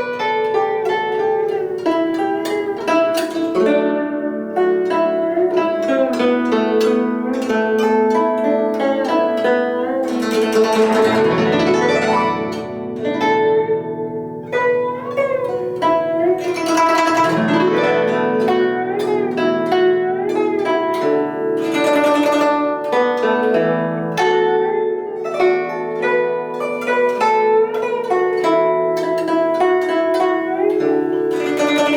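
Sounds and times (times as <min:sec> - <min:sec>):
plucked zither music: 0:00.0 - 0:31.9.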